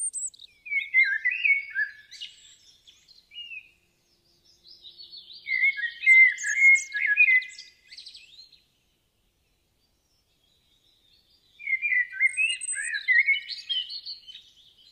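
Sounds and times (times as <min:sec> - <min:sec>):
songbird chirping and warbling: 0:00.0 - 0:14.9.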